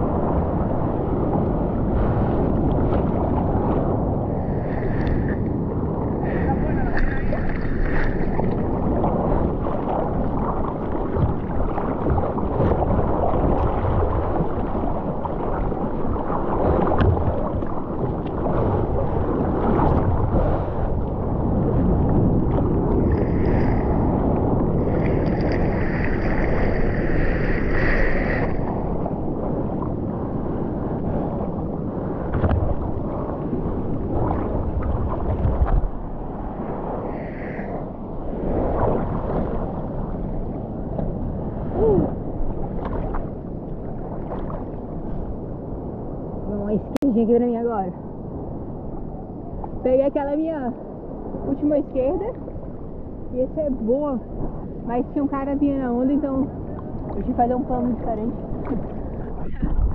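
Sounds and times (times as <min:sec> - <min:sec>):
water sloshing and splashing: 0:00.0 - 0:47.1, 0:48.2 - 0:59.9
wind on microphone: 0:00.0 - 0:59.9.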